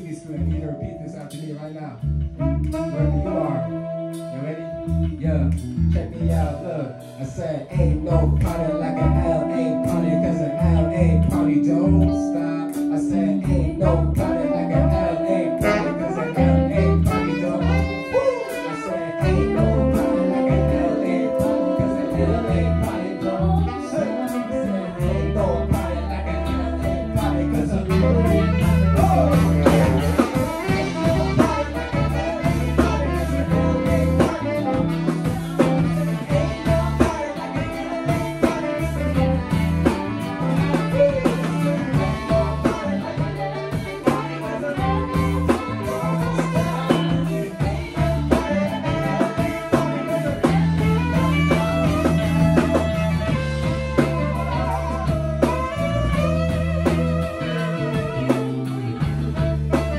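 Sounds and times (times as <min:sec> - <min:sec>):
bass guitar: 0:00.0 - 0:59.9
electric guitar: 0:00.0 - 0:59.9
keyboard: 0:00.0 - 0:59.9
person singing: 0:00.0 - 0:59.9
saxophones: 0:00.0 - 0:59.9
drums: 0:04.9 - 0:59.9.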